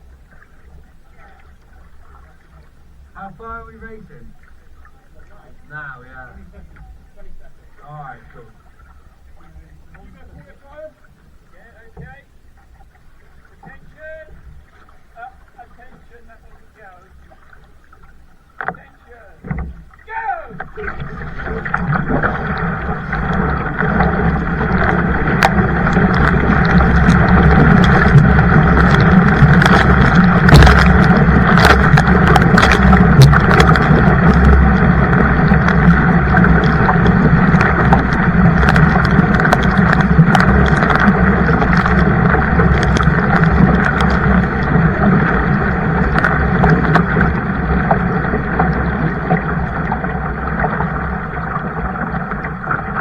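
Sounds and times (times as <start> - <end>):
kayak paddle splashing water: 0.0 - 53.0.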